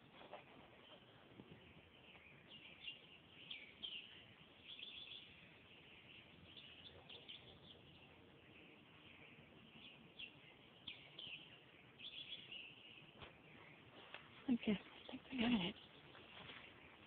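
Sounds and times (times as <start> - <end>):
bird singing faintly: 0.0 - 17.0.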